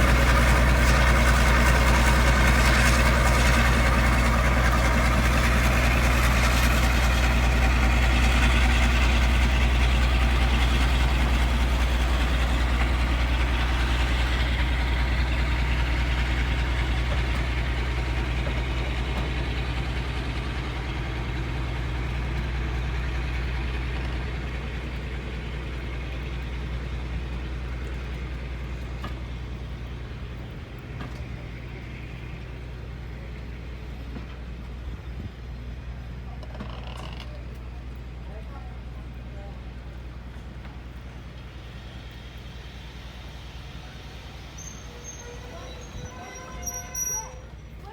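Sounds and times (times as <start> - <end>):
locomotive engines running: 0.0 - 47.9.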